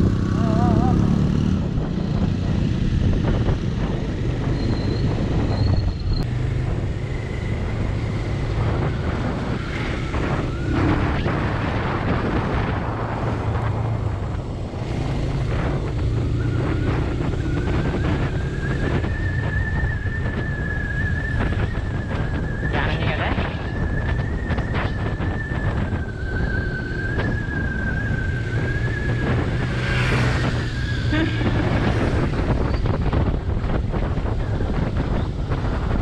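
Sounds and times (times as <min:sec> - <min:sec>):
motorcycle engine accelerating: 0:00.0 - 0:36.0
wind buffeting microphone: 0:00.0 - 0:36.0.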